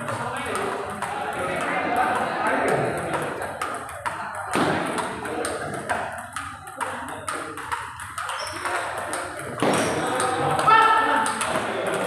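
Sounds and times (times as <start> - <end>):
table tennis ball clicking: 0.0 - 12.0.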